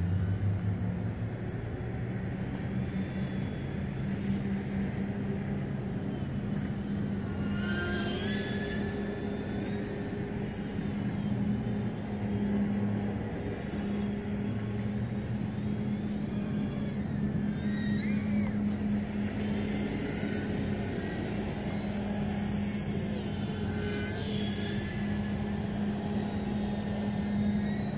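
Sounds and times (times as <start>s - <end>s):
quadcopter low hum: 0.0s - 27.9s
high motor tones: 2.1s - 27.9s.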